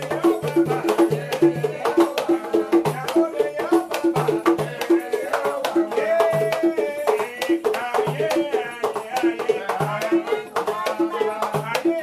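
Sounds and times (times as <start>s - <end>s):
drums playing interlocking rhythm: 0.0s - 12.0s
jingling drum bells: 0.0s - 12.0s.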